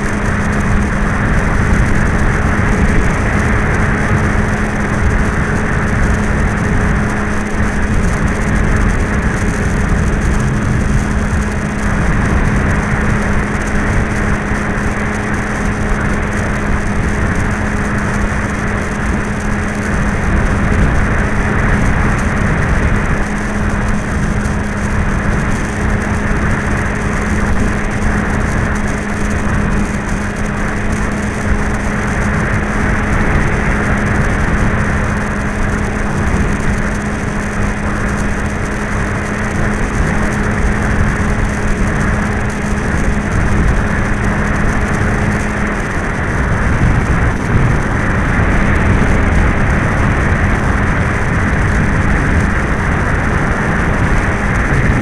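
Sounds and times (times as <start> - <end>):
electric motor and propeller hum: 0.0 - 55.0
wind rushing over microphone: 0.0 - 55.0.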